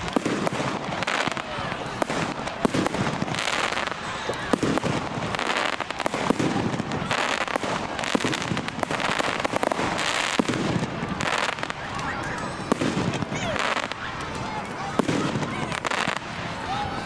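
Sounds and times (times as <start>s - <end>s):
firework bursts and bangs: 0.0s - 17.0s
fireworks crackling hiss: 0.0s - 17.0s.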